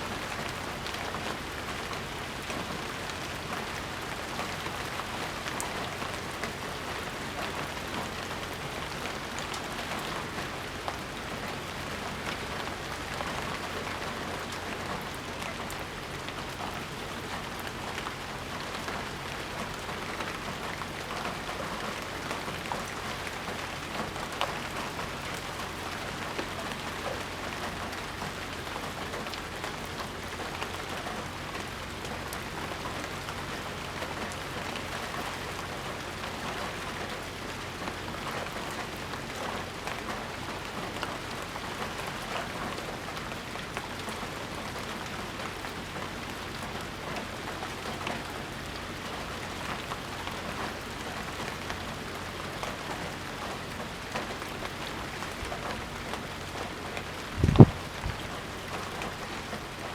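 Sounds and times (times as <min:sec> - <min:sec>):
raindrops ticking on surfaces: 0:00.0 - 0:59.9
steady rain hiss: 0:00.0 - 0:59.9.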